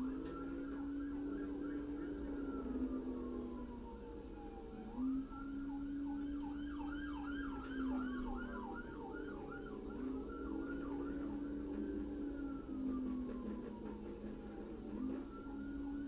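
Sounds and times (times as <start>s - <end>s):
police siren wailing and yelping: 0.0s - 14.1s.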